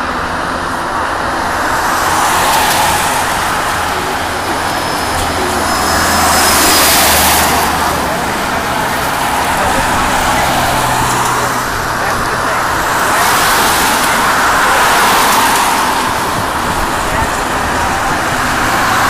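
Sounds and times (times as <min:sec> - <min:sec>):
distant jet engines rushing: 0:00.0 - 0:19.0.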